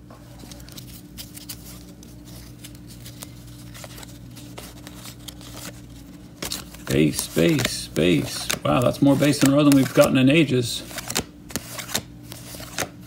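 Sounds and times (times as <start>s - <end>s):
steady low hum: 0.0s - 13.0s
cards flipped by hand: 0.4s - 10.2s, 10.8s - 13.0s.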